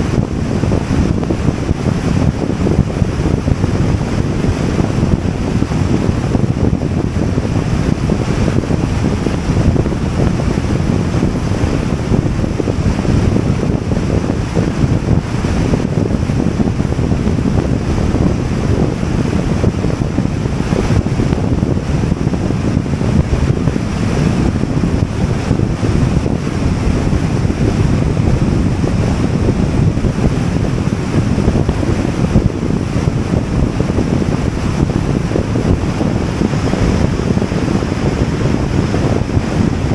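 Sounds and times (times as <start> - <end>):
wind and road noise: 0.0 - 39.9
wind buffeting microphone: 0.0 - 39.9.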